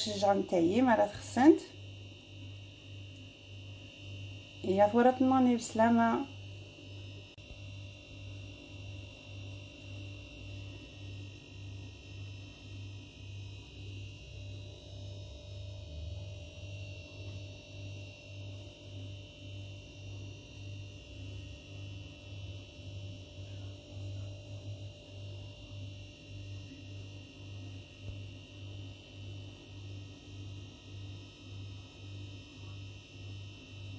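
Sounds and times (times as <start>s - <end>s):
faint steady whine: 0.0s - 33.9s
pulsing electrical hum: 0.0s - 33.9s.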